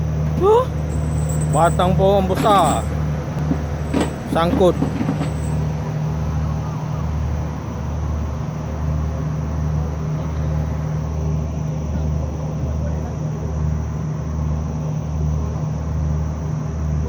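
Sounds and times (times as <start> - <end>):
ship engine drone: 0.0 - 17.0.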